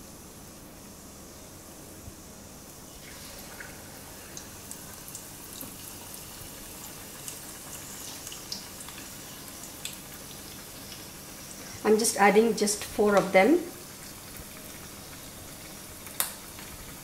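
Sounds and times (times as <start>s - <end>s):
chicken deep-frying in oil: 2.7s - 17.0s.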